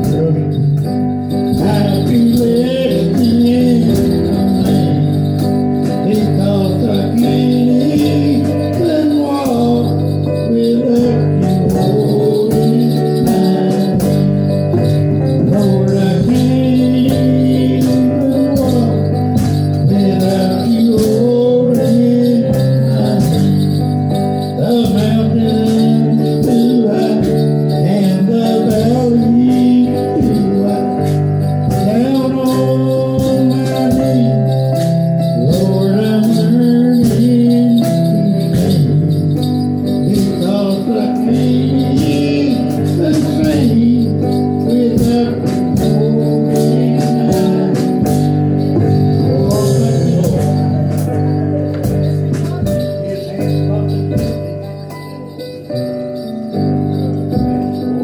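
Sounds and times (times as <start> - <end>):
instrumental backing music: 0.0 - 58.0
man singing into a microphone: 0.0 - 58.0.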